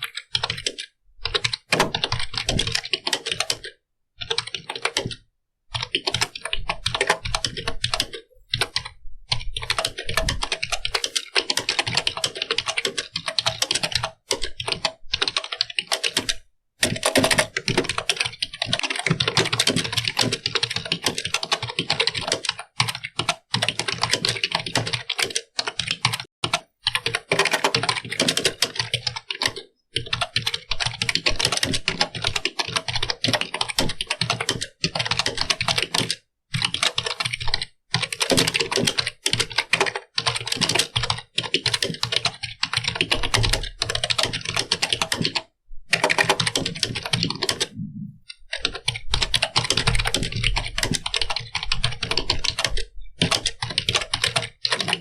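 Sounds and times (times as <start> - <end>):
keyboard typing clicks: 0.0 - 55.0.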